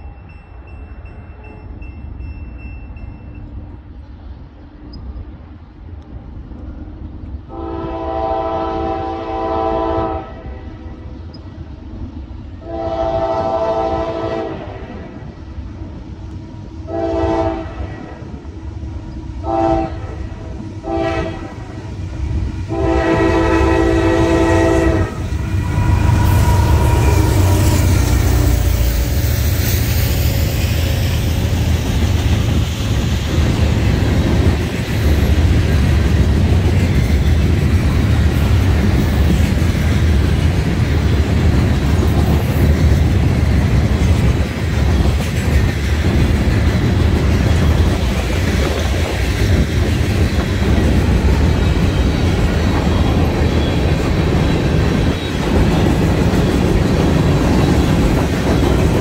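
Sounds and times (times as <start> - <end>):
freight train rumbling by: 0.0 - 59.0.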